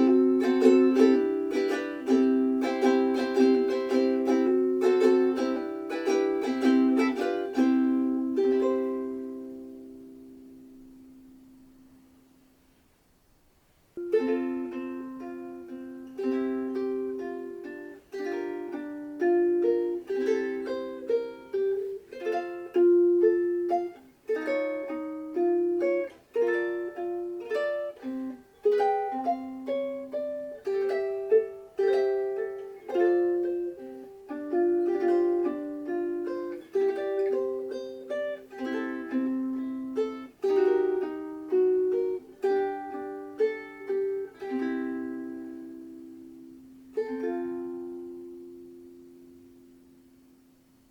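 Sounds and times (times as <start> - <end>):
ukulele plucked melody and chords: 0.0 - 12.7, 14.0 - 50.9.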